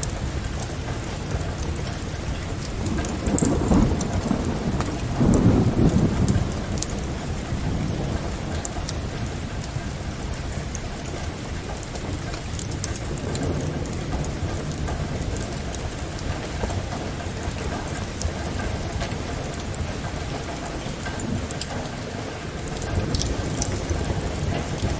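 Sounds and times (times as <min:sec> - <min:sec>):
steady rain: 0:00.0 - 0:24.9
thunder rumble: 0:00.0 - 0:24.9.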